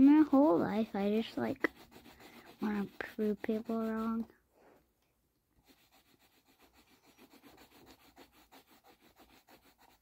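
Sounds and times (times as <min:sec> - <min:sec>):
pencil scribbling on paper: 0:00.0 - 0:04.3, 0:05.6 - 0:10.0.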